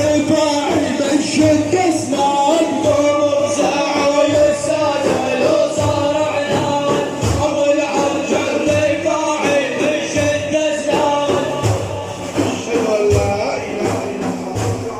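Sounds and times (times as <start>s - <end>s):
frame drums beating: 0.0s - 14.9s
man chanting: 0.0s - 14.9s.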